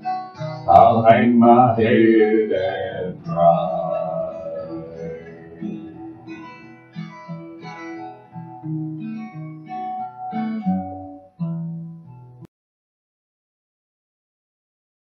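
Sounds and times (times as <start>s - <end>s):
acoustic guitar playing: 0.0s - 12.5s.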